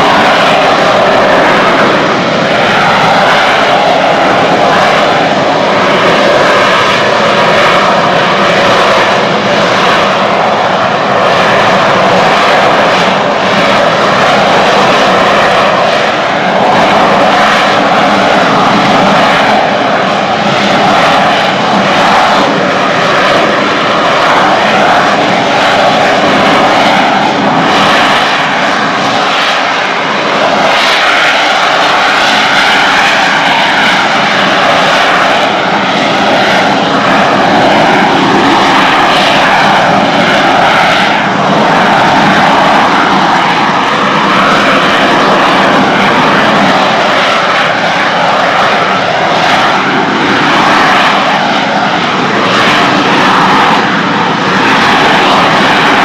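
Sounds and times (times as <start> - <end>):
jet engine roaring at high power: 0.0 - 56.0.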